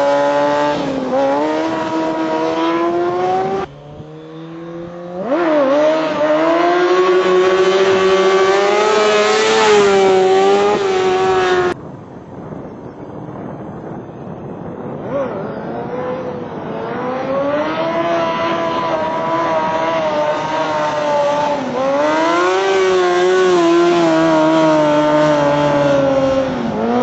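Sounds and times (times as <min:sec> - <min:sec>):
motorcycle engine revving: 0:00.0 - 0:11.8, 0:14.8 - 0:27.0.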